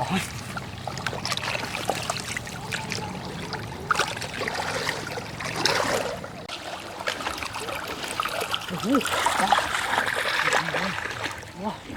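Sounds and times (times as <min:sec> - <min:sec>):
low steady hum: 0:00.0 - 0:11.9
shallow water splashing: 0:00.0 - 0:11.9.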